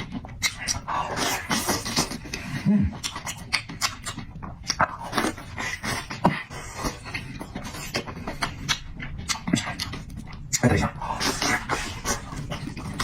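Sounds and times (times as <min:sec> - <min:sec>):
person chewing with smacking lips: 0:00.0 - 0:13.0.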